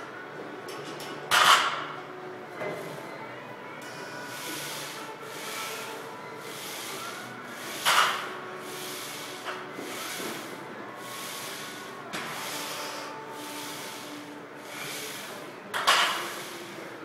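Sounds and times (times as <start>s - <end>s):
rhythmic hissing breaths: 2.4s - 17.0s.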